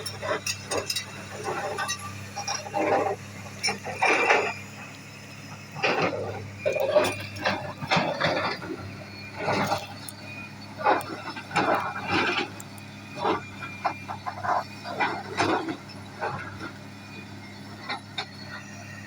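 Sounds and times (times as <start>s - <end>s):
excavator engine humming: 0.0s - 19.0s.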